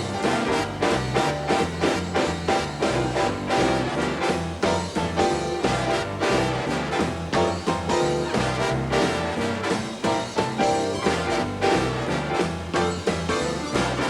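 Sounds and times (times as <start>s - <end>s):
bass line: 0.0s - 14.0s
swing jazz band playing: 0.0s - 14.0s.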